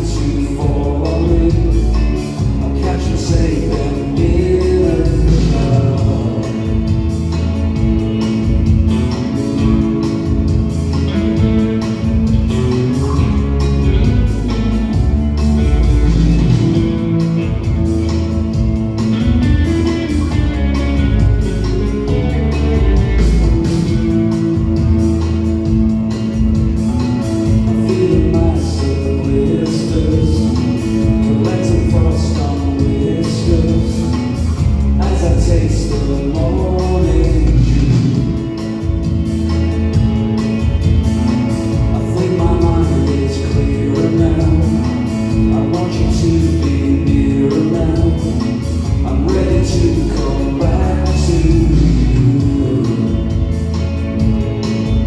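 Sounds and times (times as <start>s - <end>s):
person singing: 0.0s - 40.0s, 40.6s - 55.0s
live rock band: 0.0s - 55.0s.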